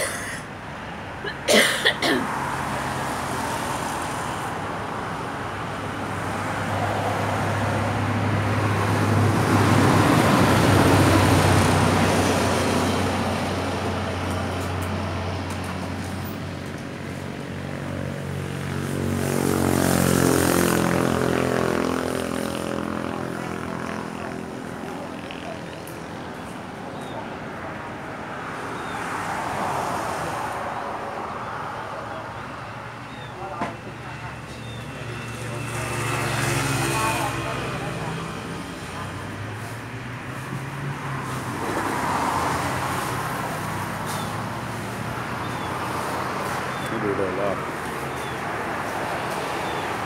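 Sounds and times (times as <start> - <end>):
vehicle engines passing by: 0.0 - 50.0.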